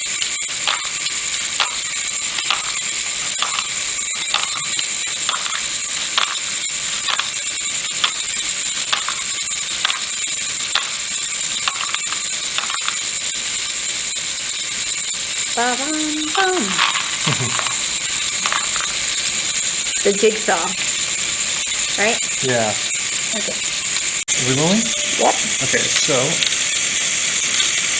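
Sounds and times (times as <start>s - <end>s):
electric motor whirring: 0.0s - 27.9s.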